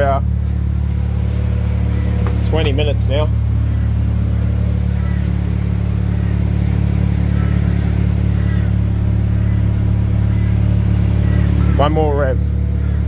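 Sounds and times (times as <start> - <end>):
rotary car engine idling: 0.0 - 13.0.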